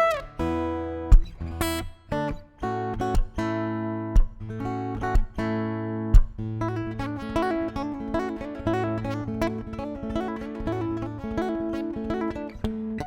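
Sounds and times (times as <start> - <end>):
instrumental guitar music: 0.0 - 13.0.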